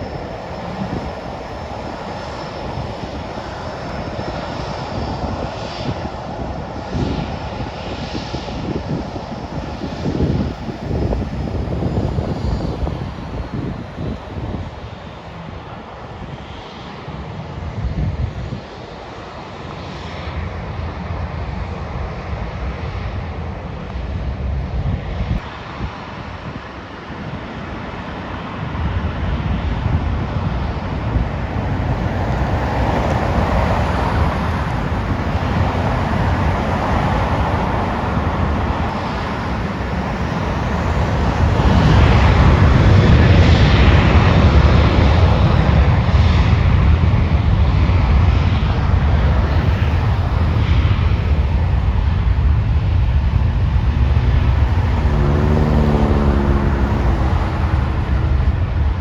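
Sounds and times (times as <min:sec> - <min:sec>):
jet airliner engines roaring: 0:00.0 - 0:59.0.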